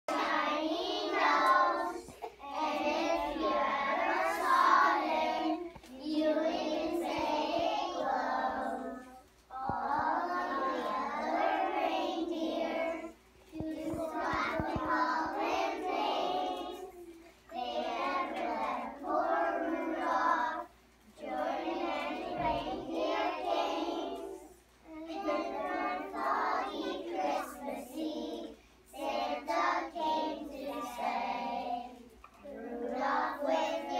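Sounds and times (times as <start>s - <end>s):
children singing together: 0.1s - 33.9s.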